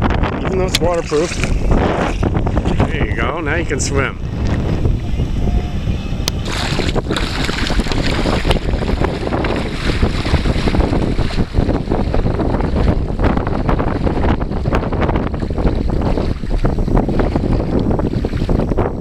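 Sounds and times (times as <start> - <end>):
wind buffeting microphone: 0.0 - 19.0
wading through shallow water: 0.1 - 19.0.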